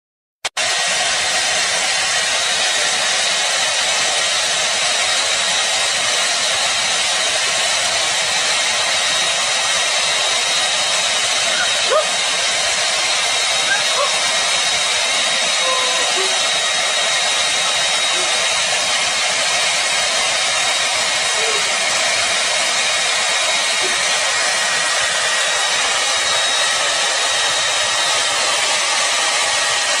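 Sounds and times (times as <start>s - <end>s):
hair dryer running: 0.6s - 30.0s.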